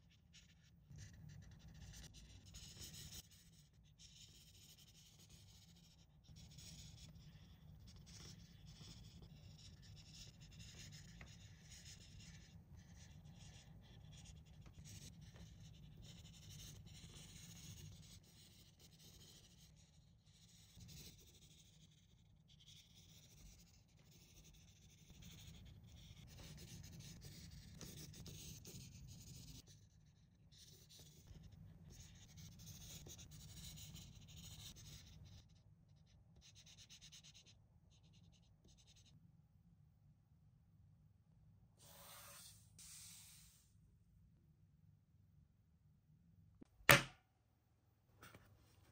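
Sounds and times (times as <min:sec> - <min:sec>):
marker scratching on paper: 0:00.0 - 0:35.6, 0:36.4 - 0:39.1, 0:41.8 - 0:43.7.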